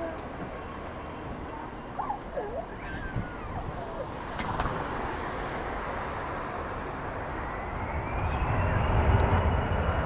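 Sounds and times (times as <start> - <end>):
jet engine whine: 0.0 - 10.0
low engine rumble: 0.0 - 10.0.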